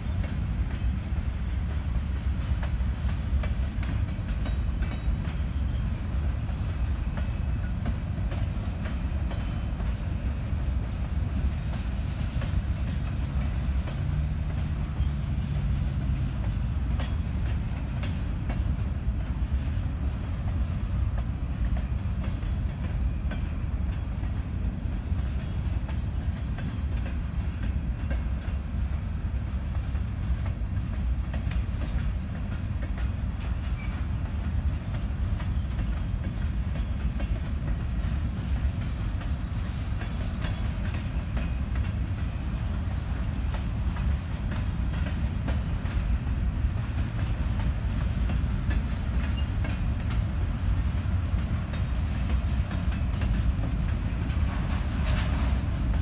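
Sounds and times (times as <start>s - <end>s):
freight train rumbling past: 0.0s - 56.0s
wheels clicking over rail joints: 0.0s - 56.0s.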